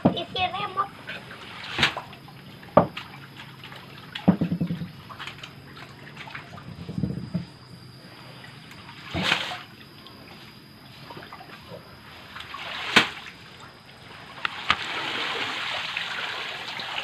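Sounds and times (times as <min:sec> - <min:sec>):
water splashes: 0:00.0 - 0:07.2, 0:08.1 - 0:17.0
water trickling and sloshing: 0:00.0 - 0:17.0.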